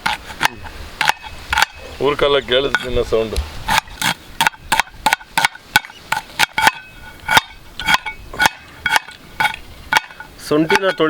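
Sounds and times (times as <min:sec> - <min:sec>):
knife chopping on metal: 0:00.0 - 0:01.8, 0:03.7 - 0:11.0.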